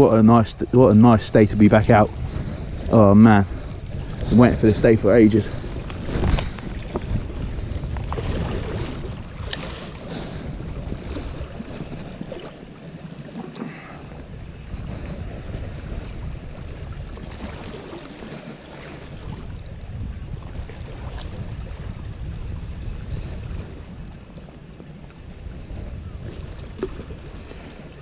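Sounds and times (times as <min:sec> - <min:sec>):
sea washing against rocks: 0:00.0 - 0:28.0
wind buffeting microphone: 0:00.0 - 0:28.0.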